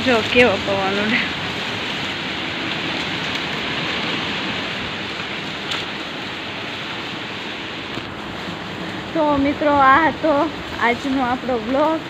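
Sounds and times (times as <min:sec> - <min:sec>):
wind blowing through trees: 0:00.0 - 0:12.0.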